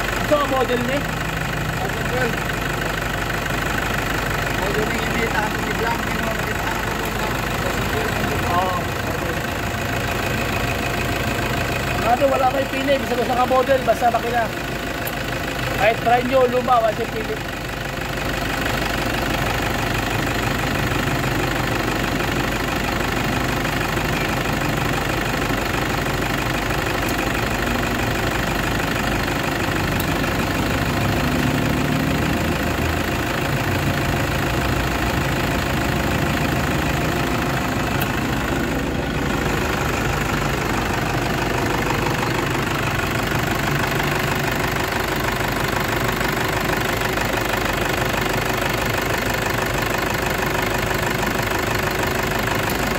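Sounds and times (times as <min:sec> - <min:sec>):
engine idling: 0:00.0 - 0:52.9.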